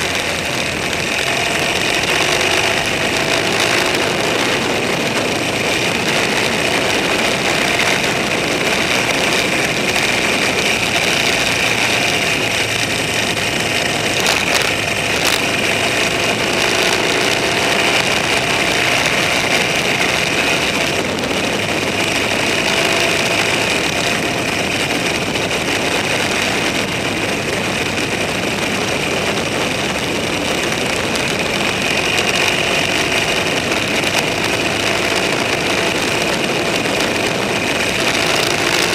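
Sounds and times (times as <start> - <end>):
vehicle engine droning: 0.0 - 38.9.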